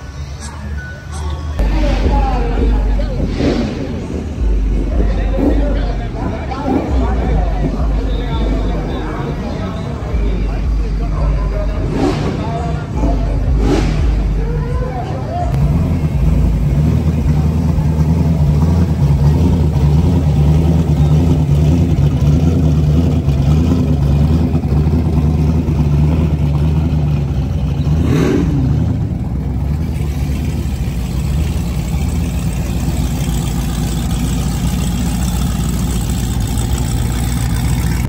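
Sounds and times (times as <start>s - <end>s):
deep car engine rumble: 0.0s - 38.0s
engine rev: 1.6s - 38.0s.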